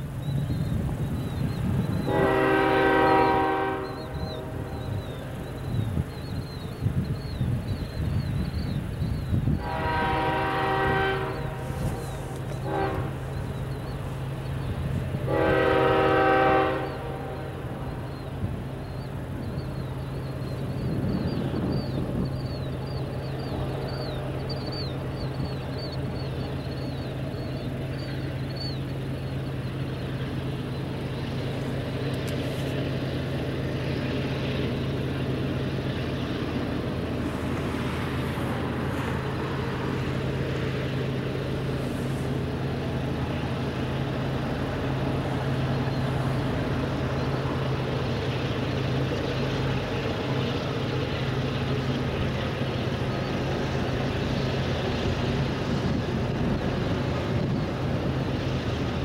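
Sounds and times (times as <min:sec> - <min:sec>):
distant diesel locomotive drone: 0:00.0 - 0:59.0.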